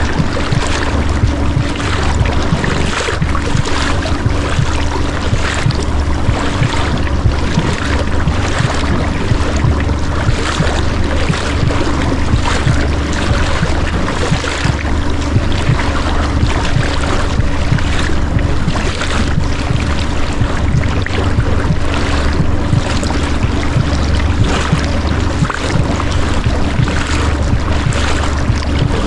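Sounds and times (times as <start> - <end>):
boat motor hum: 0.0 - 29.0
water noise: 0.0 - 29.0
wind noise: 0.0 - 29.0.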